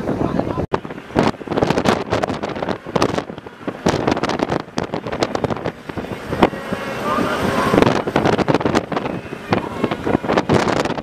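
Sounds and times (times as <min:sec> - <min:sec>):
low rumble: 0:00.0 - 0:11.0
wind buffeting microphone: 0:00.0 - 0:11.0.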